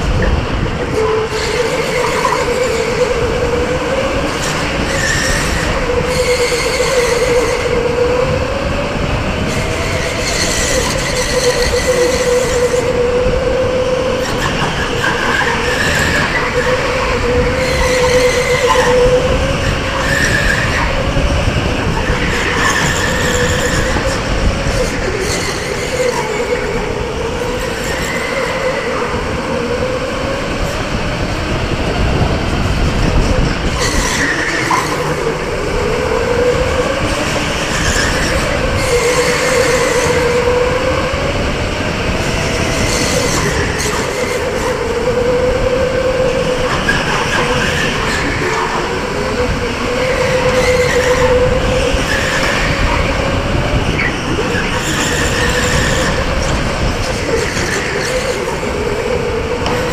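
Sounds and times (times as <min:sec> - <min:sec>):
electric go-kart motor whining: 0:00.0 - 0:59.9
steady rushing noise: 0:00.0 - 0:59.9.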